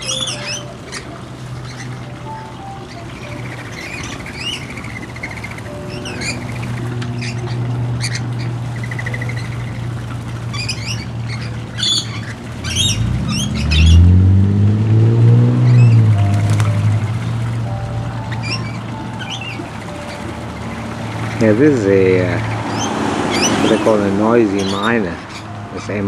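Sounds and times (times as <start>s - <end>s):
lorikeets squawking: 0.0s - 14.2s, 15.6s - 26.0s
low hum: 0.0s - 23.7s
low droning rising in pitch: 0.0s - 24.3s.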